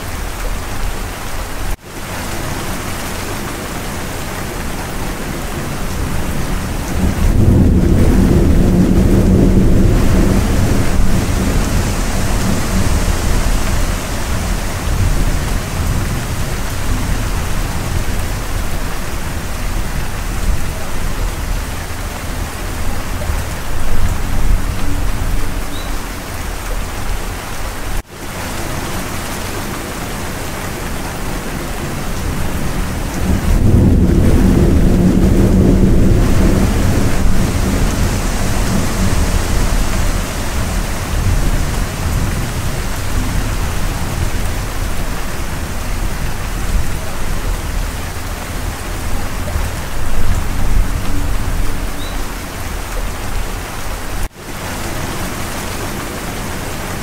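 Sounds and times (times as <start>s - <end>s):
heavy rain: 0.0s - 57.0s
low rumble of thunder: 4.1s - 27.2s, 28.6s - 54.3s.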